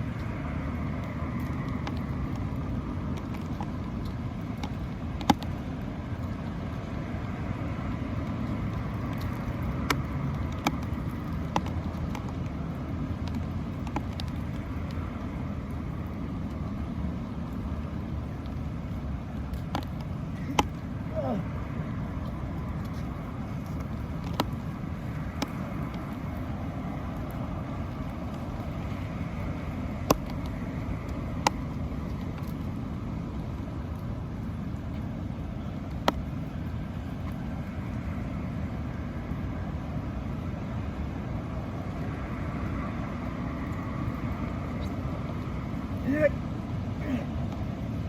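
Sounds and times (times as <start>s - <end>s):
low rumbling background noise: 0.0s - 48.0s.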